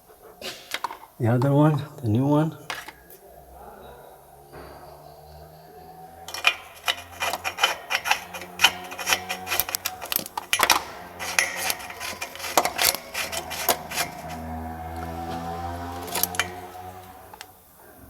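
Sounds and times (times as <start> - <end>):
hand tools scraping and clicking: 0.0 - 1.9, 2.6 - 3.2, 6.0 - 18.0.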